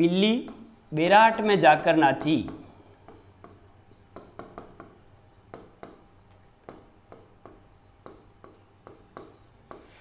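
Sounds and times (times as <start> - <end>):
pen tapping and scratching on board: 0.3 - 0.8, 1.7 - 10.0.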